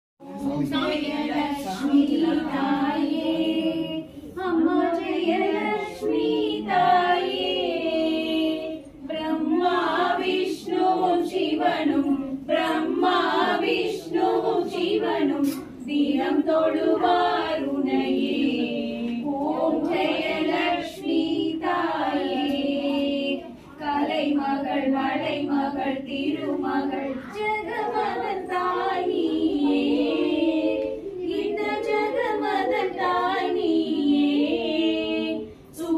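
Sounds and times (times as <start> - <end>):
women singing together: 0.2 - 35.9.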